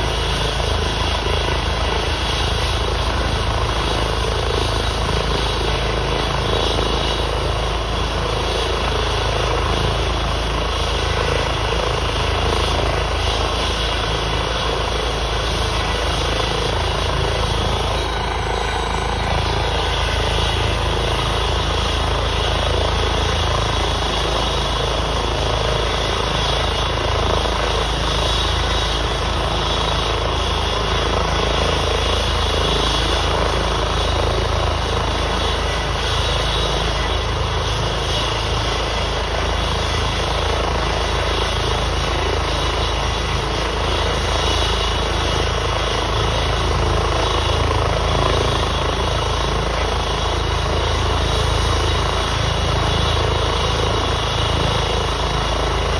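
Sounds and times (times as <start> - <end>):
helicopter turbine and rotor noise: 0.0 - 55.9.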